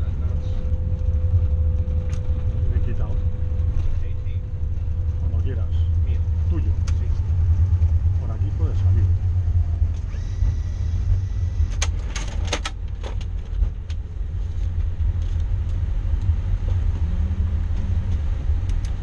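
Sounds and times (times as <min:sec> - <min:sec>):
low cockpit rumble: 0:00.0 - 0:19.0.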